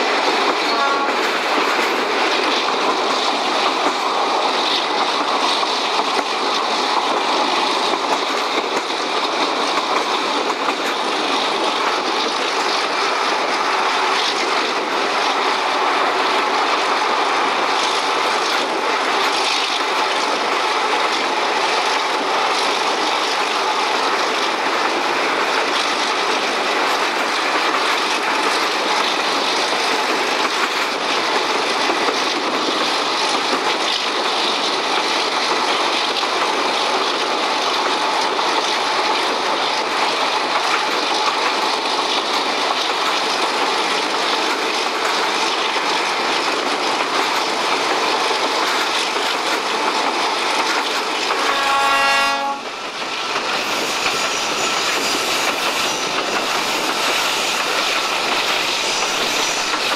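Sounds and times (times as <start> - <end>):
diesel locomotive running under power: 0.0 - 59.9
train wheels rolling on rails: 0.0 - 59.9.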